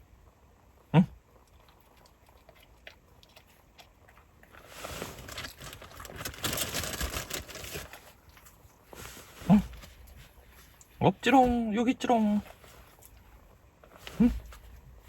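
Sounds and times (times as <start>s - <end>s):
crinkly rustling: 1.7s - 15.0s.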